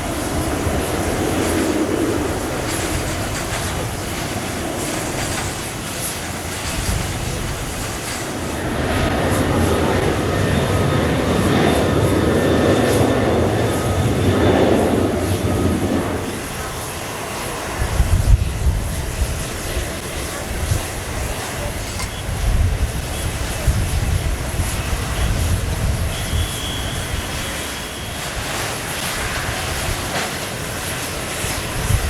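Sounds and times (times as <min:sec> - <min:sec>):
high turbine whine: 0:00.0 - 0:32.0
jet engines running: 0:00.0 - 0:32.0.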